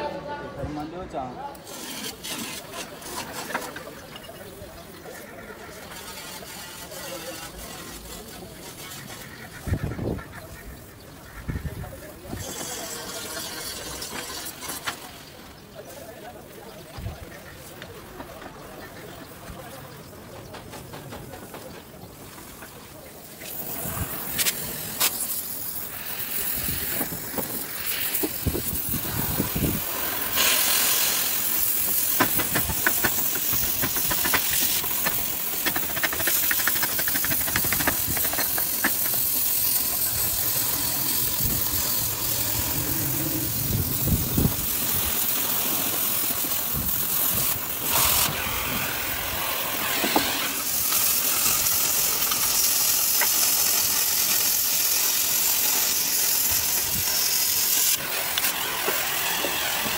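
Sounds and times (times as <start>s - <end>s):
cutting torch hissing: 1.5s - 20.1s, 22.2s - 59.9s
crackling: 1.5s - 59.9s.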